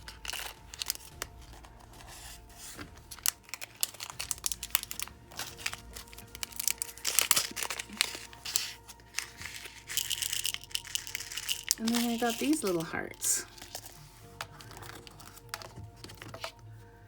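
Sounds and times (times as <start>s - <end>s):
plastic bags crinkling: 0.0s - 16.6s.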